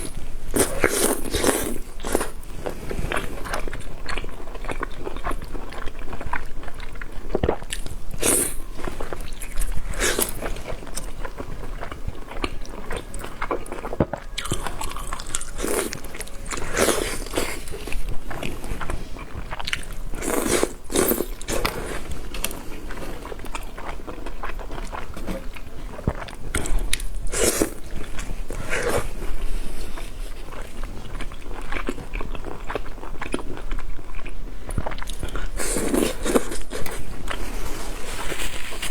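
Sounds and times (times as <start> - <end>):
chewing and biting oysters: 0.0 - 37.4.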